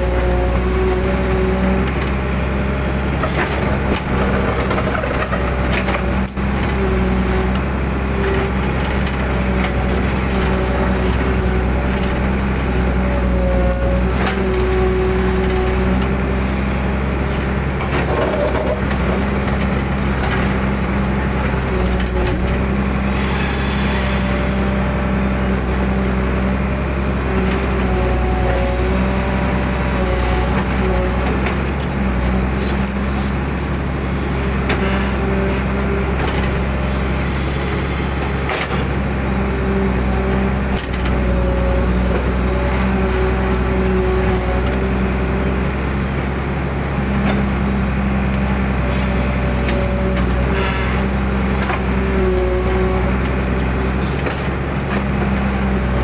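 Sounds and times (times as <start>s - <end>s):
excavator diesel engine running: 0.0s - 56.0s
hydraulic whine: 0.0s - 56.0s.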